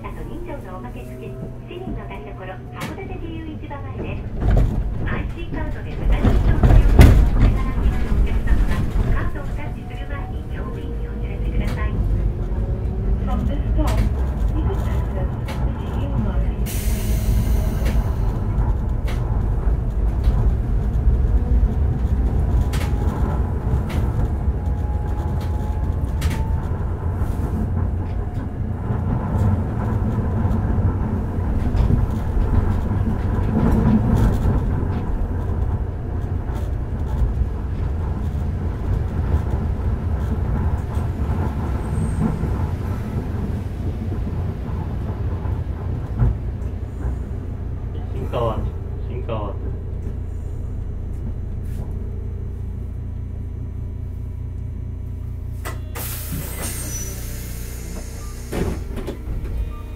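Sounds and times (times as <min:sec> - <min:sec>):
tram wheels rumbling on rail: 0:00.0 - 0:59.9.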